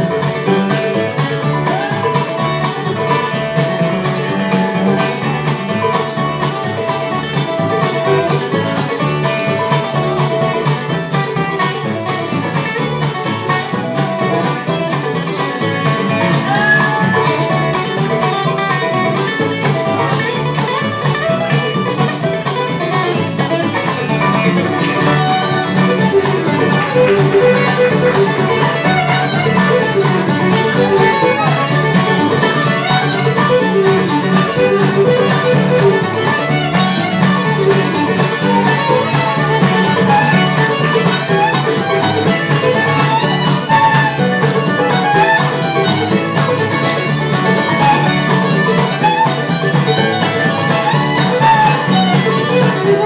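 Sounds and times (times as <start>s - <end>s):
acoustic guitar: 0.0s - 53.0s
drums: 0.0s - 53.0s
fiddle bowing: 0.0s - 53.0s
mandolin: 0.0s - 53.0s
upright bass: 0.0s - 53.0s.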